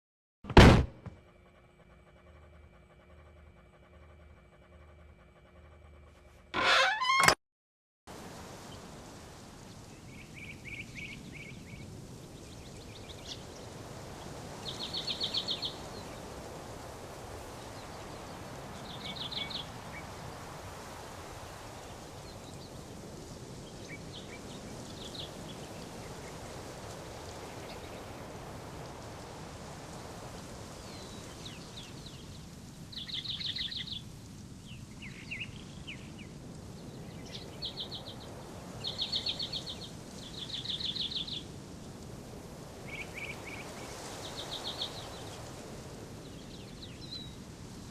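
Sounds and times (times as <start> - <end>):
outdoor background hiss: 8.1 - 47.9
songbirds chirping: 8.3 - 47.9.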